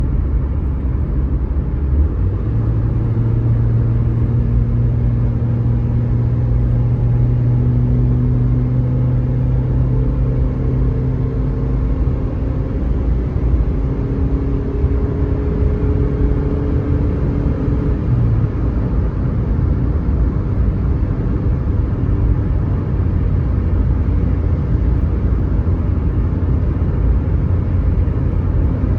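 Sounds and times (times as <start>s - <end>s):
car engine rumble: 0.0s - 28.9s
road noise: 0.0s - 28.9s.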